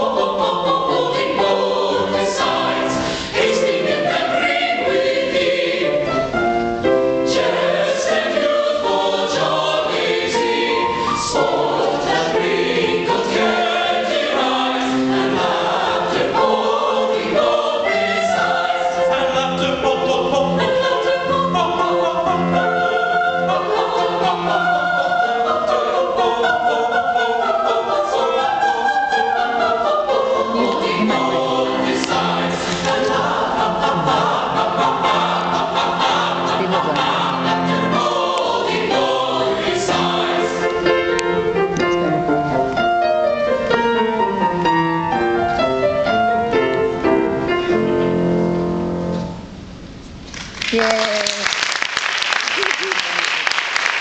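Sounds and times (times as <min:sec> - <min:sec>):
choir singing in harmony: 0:00.0 - 0:49.3.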